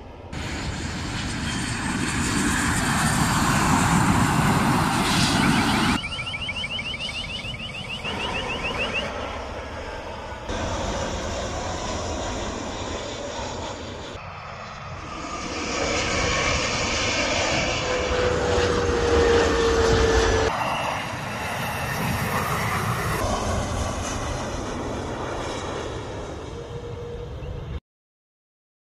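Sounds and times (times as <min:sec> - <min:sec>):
jet airliner engines roaring: 0:00.0 - 0:27.8.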